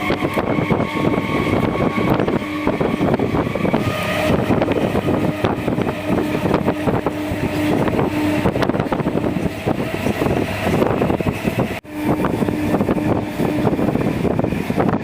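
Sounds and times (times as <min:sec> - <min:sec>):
train wheels rumbling and rattling: 0:00.0 - 0:15.0.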